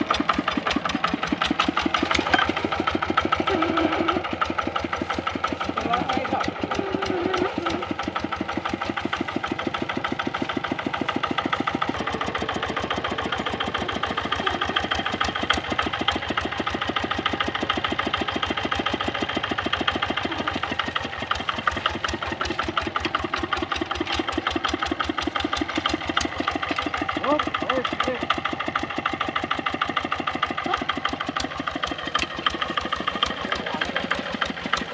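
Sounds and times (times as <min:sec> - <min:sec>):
diesel engine chugging: 0:00.0 - 0:34.9.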